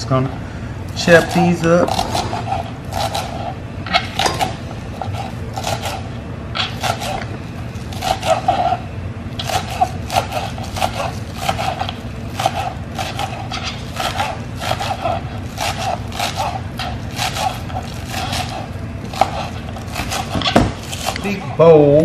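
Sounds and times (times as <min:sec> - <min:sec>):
knife chopping on cutting board: 0:01.0 - 0:08.8, 0:09.4 - 0:21.2.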